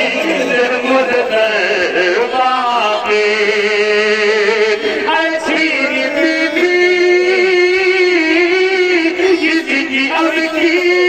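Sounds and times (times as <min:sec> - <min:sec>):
man chanting a mourning lament: 0:00.0 - 0:11.0.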